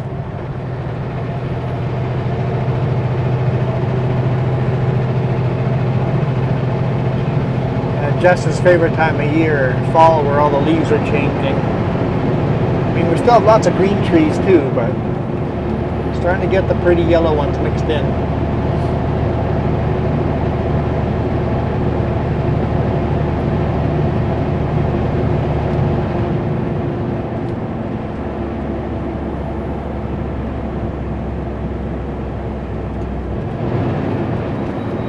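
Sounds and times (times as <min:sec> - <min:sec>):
diesel engine drone: 0:00.0 - 0:35.0
tyre and road noise: 0:00.0 - 0:35.0.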